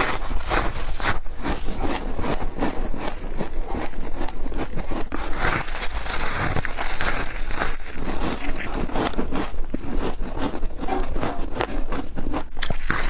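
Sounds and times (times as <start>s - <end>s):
crunching of frost being chewed: 0.0s - 13.0s.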